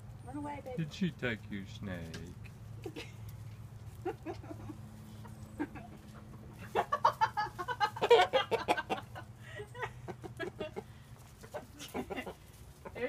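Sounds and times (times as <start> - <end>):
chickens clucking and squawking: 2.5 - 13.0.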